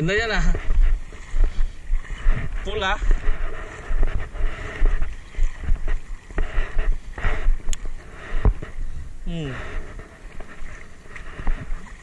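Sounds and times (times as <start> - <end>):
wading through shallow water: 0.0 - 12.0
wind buffeting microphone: 0.0 - 12.0.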